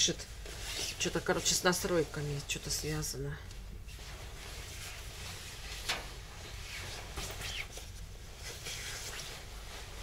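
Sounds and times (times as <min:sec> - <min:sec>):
padded jacket fabric rustling: 0:00.0 - 0:03.0, 0:03.6 - 0:10.0.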